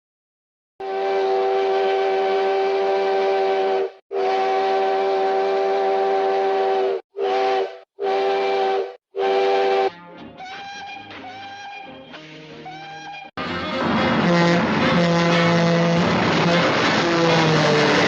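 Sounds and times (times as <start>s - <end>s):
steam train chime whistle: 0.8s - 12.0s, 14.2s - 18.0s.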